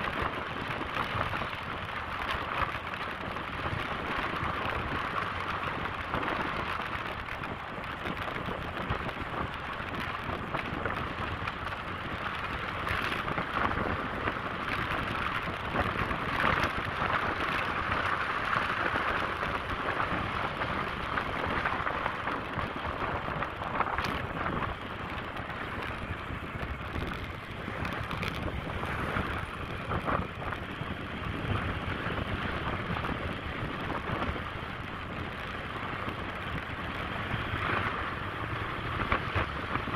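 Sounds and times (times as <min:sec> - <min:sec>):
wind rushing on moving motorcycle: 0:00.0 - 0:39.9.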